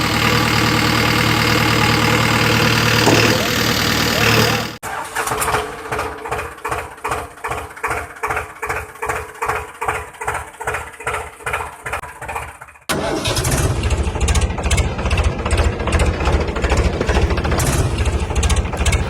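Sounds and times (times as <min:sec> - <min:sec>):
engine cranking on starter: 0:00.0 - 0:19.0
engine running: 0:00.0 - 0:19.0.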